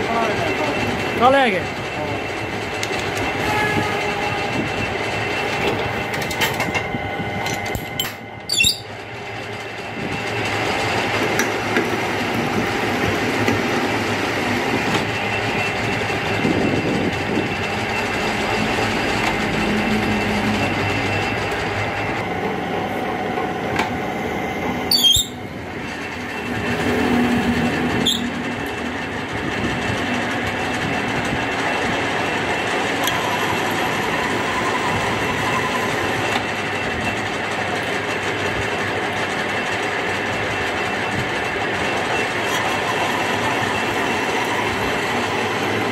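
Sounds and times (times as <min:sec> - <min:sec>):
metal lathe clattering: 0:04.9 - 0:22.3, 0:24.9 - 0:45.9.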